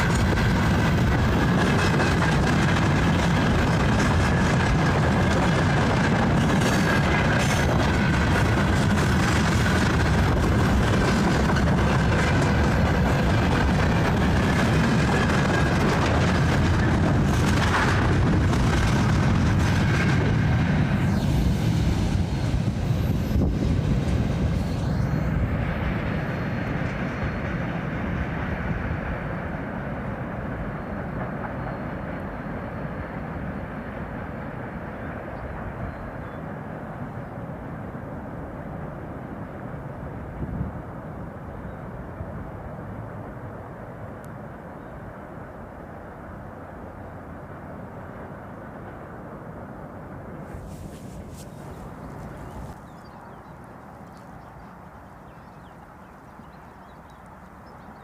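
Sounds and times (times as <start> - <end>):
train wagons rolling on rails: 0.0 - 45.2, 45.9 - 58.0.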